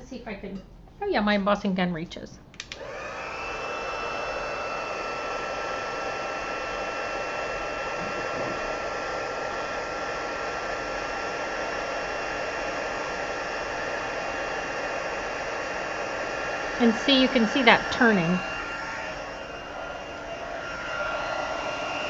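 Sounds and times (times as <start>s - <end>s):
heat gun blowing: 2.6s - 22.0s.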